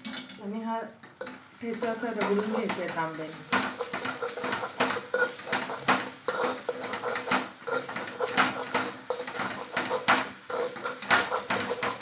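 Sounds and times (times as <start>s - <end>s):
metal pot knocking and scraping: 1.1s - 12.0s.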